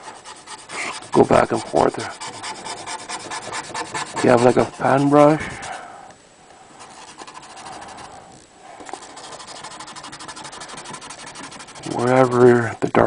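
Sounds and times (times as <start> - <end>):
paintbrush scratching on paper: 0.0 - 5.8, 6.8 - 12.6.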